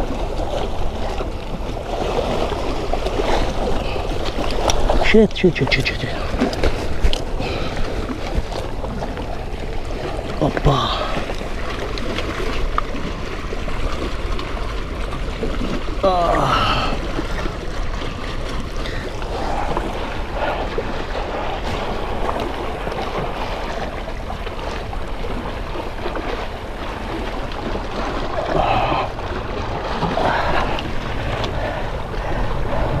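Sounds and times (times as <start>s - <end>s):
sea waves washing on rocks: 0.0s - 33.0s
wind rumbling on microphone: 0.0s - 33.0s.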